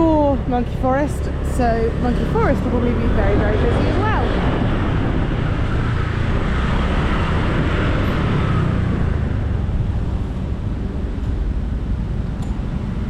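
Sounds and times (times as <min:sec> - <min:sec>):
motorbike engines rumbling: 0:00.0 - 0:13.0
wind on microphone: 0:00.0 - 0:13.0.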